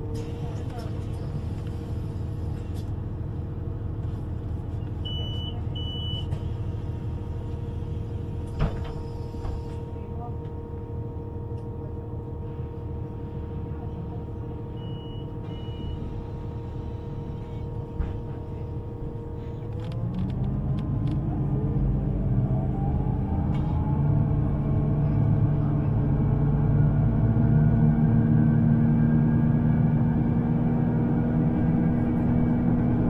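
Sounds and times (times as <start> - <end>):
electric train rumble and hum: 0.0 - 33.0.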